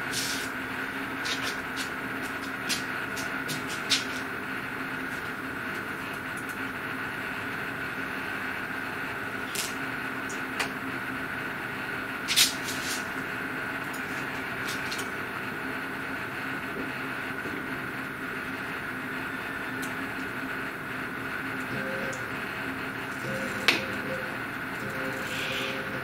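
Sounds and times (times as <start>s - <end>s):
idle machine hum: 0.0s - 26.0s.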